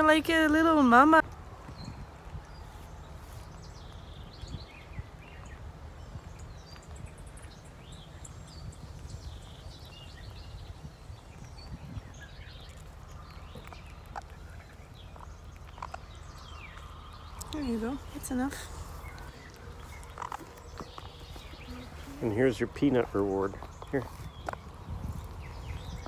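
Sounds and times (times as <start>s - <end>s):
small birds chirping: 0.0s - 26.0s
steady low rumble: 0.4s - 26.0s.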